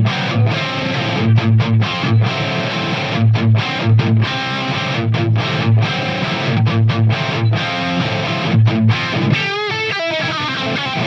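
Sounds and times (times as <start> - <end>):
distorted electric guitar riff: 0.0 - 11.0.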